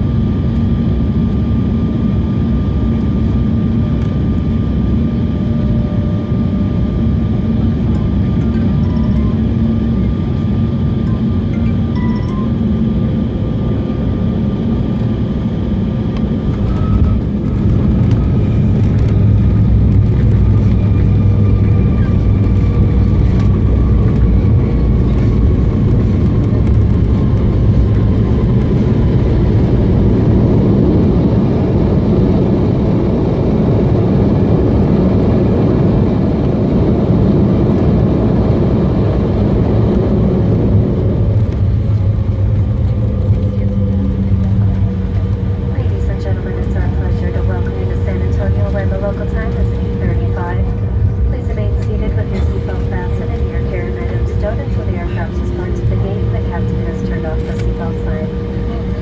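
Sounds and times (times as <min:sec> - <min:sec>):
faint engine whine: 0:00.0 - 0:59.0
jet engine rumble: 0:00.0 - 0:59.0.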